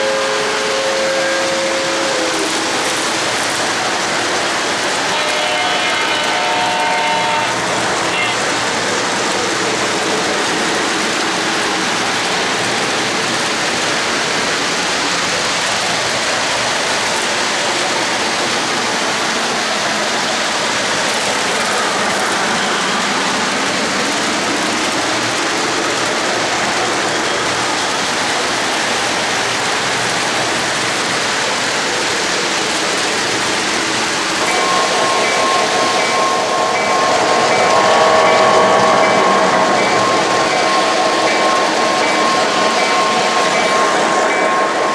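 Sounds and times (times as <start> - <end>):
model train wheels rumbling on rails: 0.0 - 44.9.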